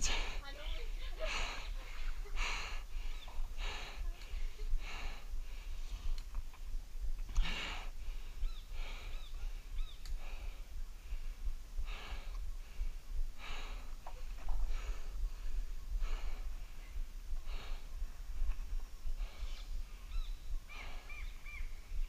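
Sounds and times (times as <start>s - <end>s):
man breathing heavily: 0.0s - 22.0s.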